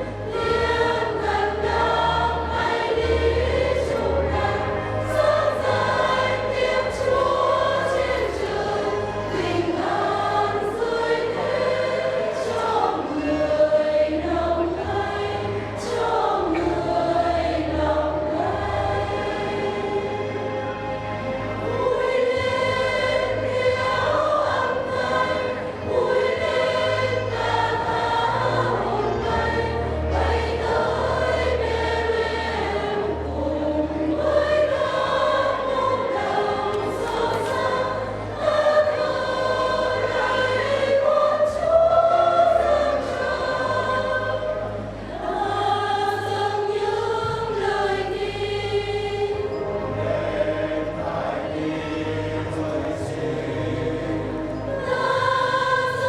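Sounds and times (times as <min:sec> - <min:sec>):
church choir singing a carol: 0:00.0 - 0:56.0
low instrumental accompaniment: 0:00.0 - 0:56.0.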